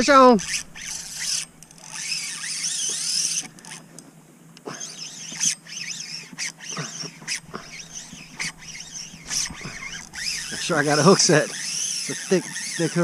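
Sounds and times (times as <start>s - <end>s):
fishing reel drag whining: 0.0s - 4.0s, 4.6s - 13.0s.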